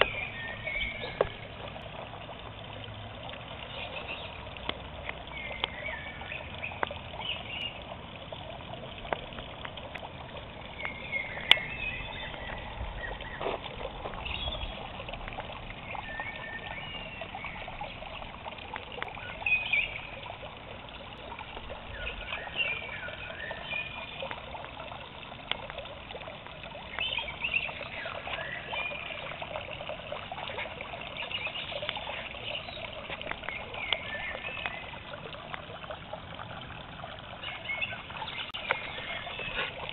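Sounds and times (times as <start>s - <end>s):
fountain splashing into water: 0.0s - 39.9s.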